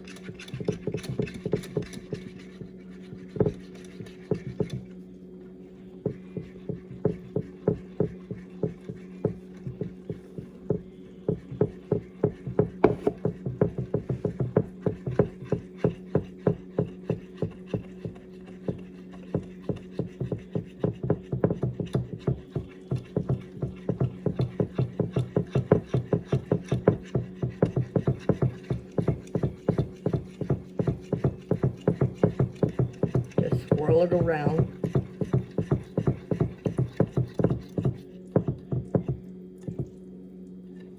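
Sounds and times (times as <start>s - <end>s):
dough knocking in bowl: 0.0s - 5.0s, 5.9s - 40.0s
electric mixer motor running: 6.0s - 39.2s.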